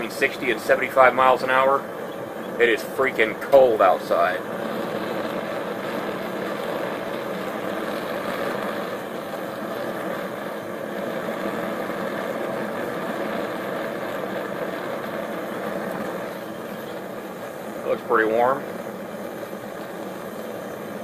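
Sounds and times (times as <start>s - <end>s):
propane burner flame rushing: 0.0s - 21.0s.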